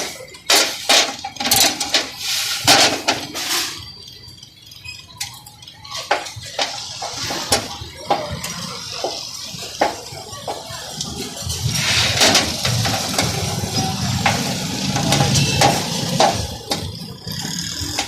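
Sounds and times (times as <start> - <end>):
metal utensils clinking: 0.0 - 18.0.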